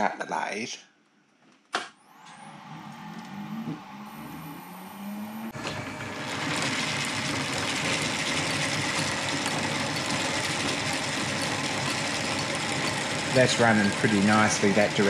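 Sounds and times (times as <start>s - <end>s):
lathe gears whirring: 2.0s - 15.0s.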